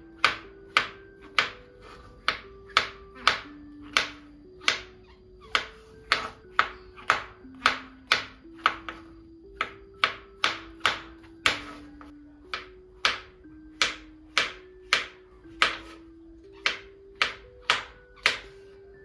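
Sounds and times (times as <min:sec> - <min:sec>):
soft background music: 0:00.0 - 0:19.0
knife chopping on cutting board: 0:00.2 - 0:04.9, 0:05.5 - 0:11.9, 0:12.5 - 0:16.0, 0:16.6 - 0:18.5.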